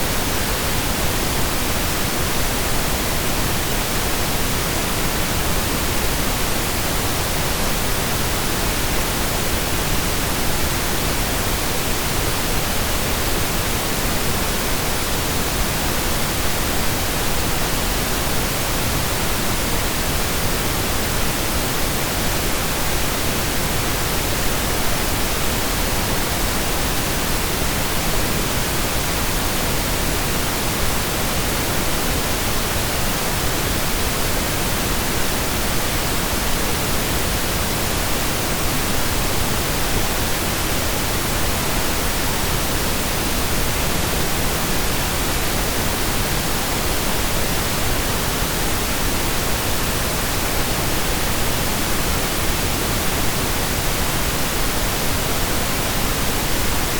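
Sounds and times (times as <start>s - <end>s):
pink noise hiss: 0.0s - 56.9s.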